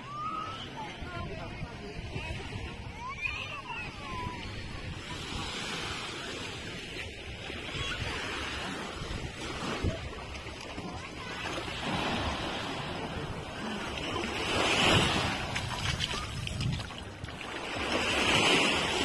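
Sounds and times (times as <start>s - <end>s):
small waves lapping on shore: 0.0s - 19.0s.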